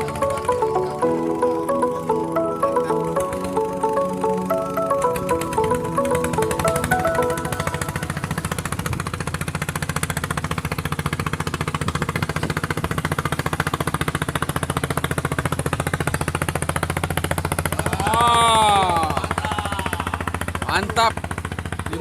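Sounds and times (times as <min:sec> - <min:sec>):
small engine putter: 0:00.0 - 0:22.0.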